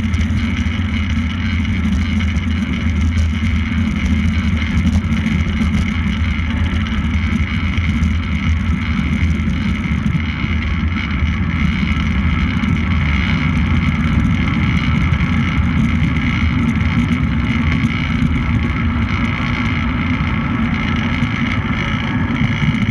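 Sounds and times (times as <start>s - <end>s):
higher drone: 0.0s - 22.9s
low rumble: 0.0s - 22.9s
wind rushing over microphone: 0.0s - 22.9s.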